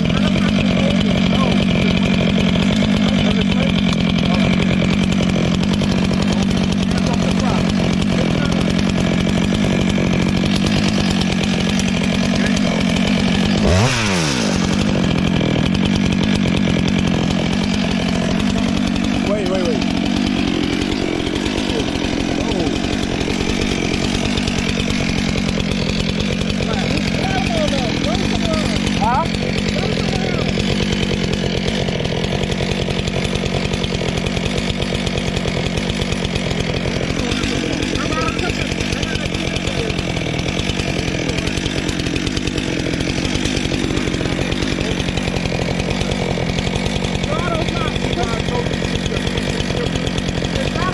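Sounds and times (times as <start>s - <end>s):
chainsaw running at speed: 0.0s - 50.9s.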